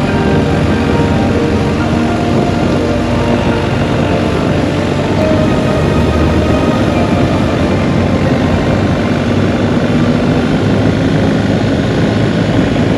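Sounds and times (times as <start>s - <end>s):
wind rush on microphone: 0.0s - 12.9s.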